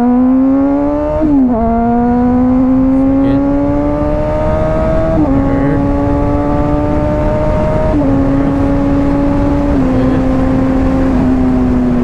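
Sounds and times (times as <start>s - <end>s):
motorcycle engine riding: 0.0s - 12.0s.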